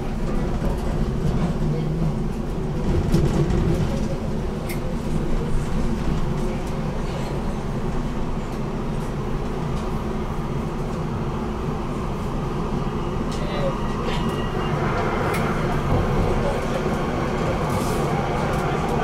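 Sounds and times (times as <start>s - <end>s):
tram running on rails: 0.0s - 19.0s.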